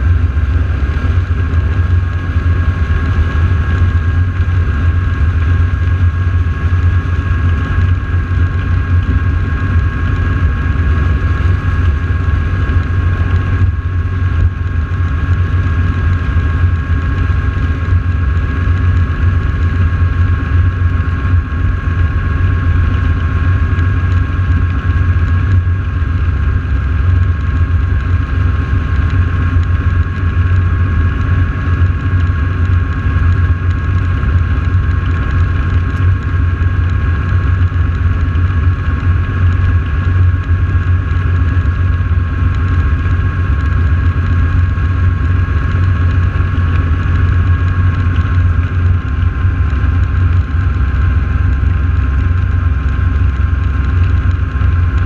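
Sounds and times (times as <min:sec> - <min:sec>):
aircraft radial engines droning: 0:00.0 - 0:55.0
thin steady whine: 0:00.0 - 0:55.0.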